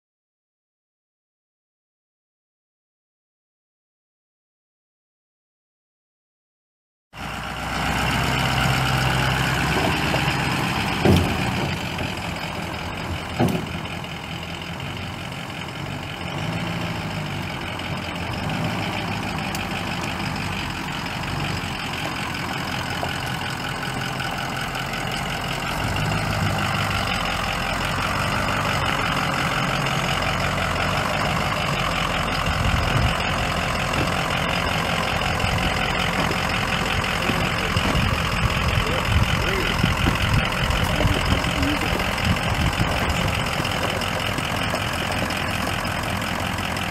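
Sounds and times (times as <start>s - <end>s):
diesel engine idling: 7.2s - 46.9s.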